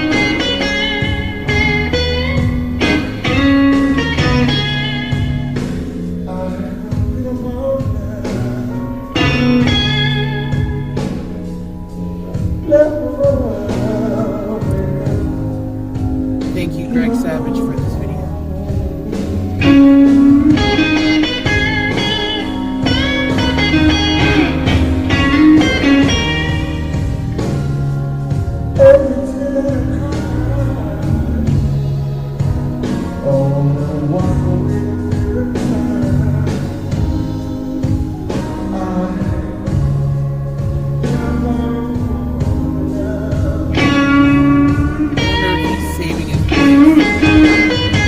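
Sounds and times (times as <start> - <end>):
bass guitar: 0.0 - 48.0
drums: 0.0 - 48.0
electric blues guitar: 0.0 - 48.0.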